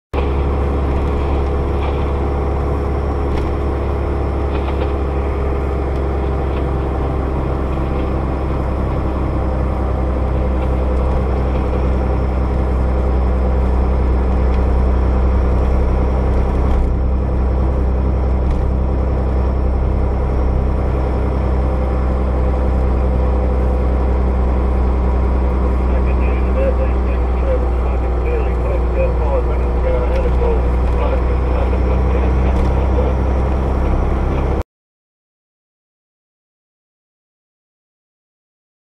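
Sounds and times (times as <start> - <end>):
engine drone: 0.1 - 34.6
road noise: 0.1 - 34.6.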